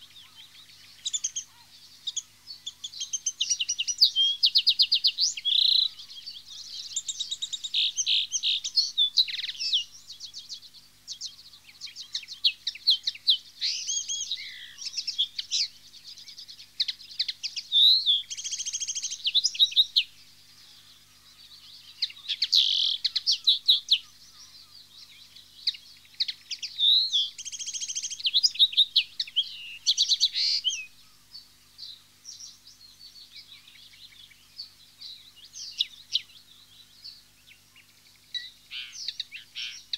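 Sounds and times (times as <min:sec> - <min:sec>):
linnet twittering song: 0:00.0 - 0:39.9.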